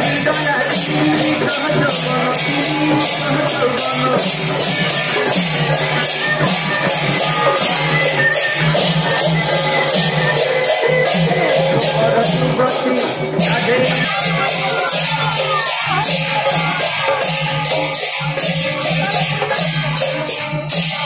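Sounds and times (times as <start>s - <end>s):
barrel drum: 0.0s - 21.0s
hand cymbals clashing: 0.0s - 21.0s
people singing: 0.0s - 21.0s.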